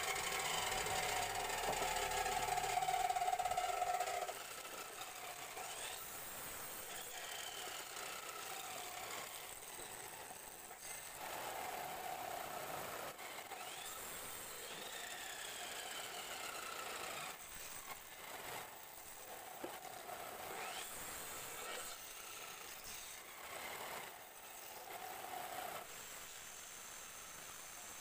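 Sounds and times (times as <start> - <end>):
wood lathe turning tool scraping: 0.0 - 26.1.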